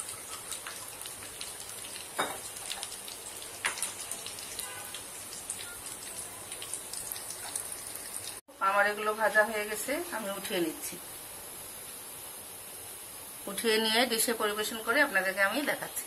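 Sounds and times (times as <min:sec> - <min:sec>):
food deep-frying in hot oil: 0:00.0 - 0:16.0.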